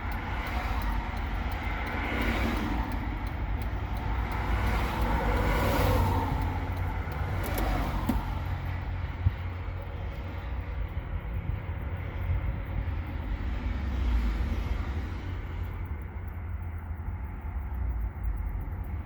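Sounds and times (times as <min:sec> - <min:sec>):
low car rumble: 0:00.0 - 0:19.0
road traffic passing: 0:00.0 - 0:19.0.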